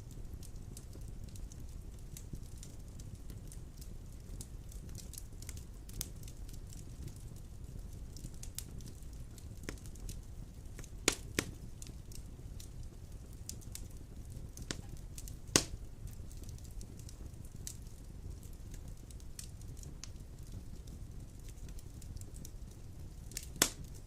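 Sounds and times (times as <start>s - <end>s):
wood fire burning: 0.0s - 24.0s.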